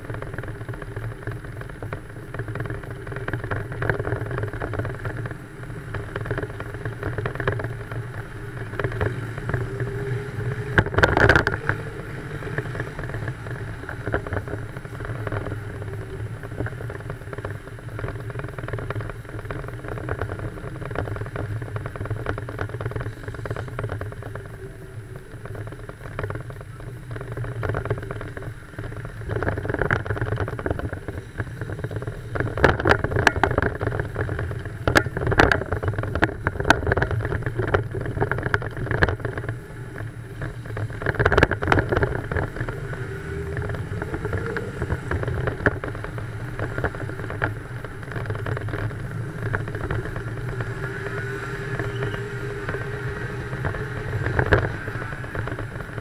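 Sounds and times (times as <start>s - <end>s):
car engine drone: 0.0s - 56.0s
knocks and buffets on camera: 0.0s - 56.0s
road noise: 0.0s - 56.0s.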